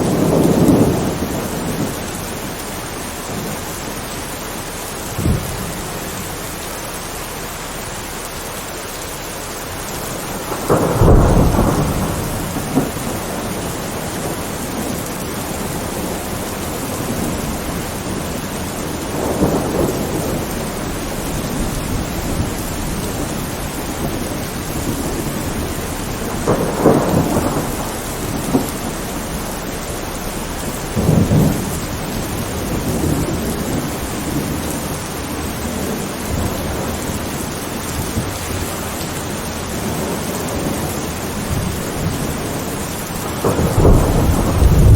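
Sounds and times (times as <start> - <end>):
thunder rumbling: 0.0 - 6.9, 9.4 - 44.9
heavy rain: 0.0 - 44.9.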